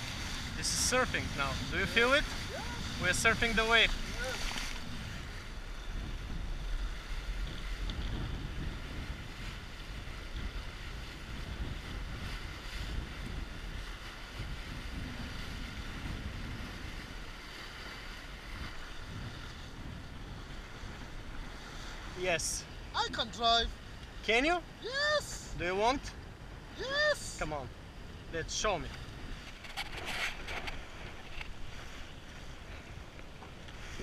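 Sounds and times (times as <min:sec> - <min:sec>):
water rushing along hull: 0:00.0 - 0:34.0
wind buffeting microphone: 0:00.0 - 0:34.0.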